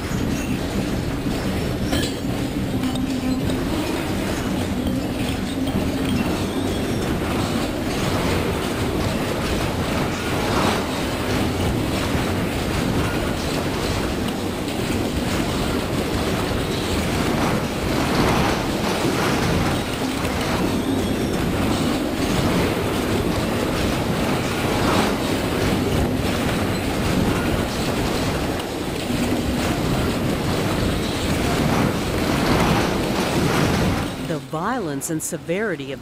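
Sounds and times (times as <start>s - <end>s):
dense clattering and knocking: 0.0s - 34.3s
loud continuous rumbling: 0.0s - 36.0s.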